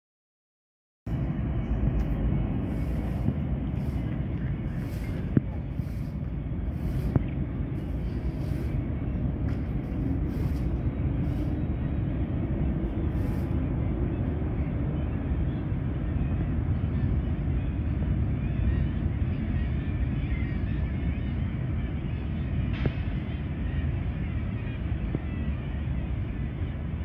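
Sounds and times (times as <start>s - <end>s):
distant freight train rumbling: 1.1s - 27.0s.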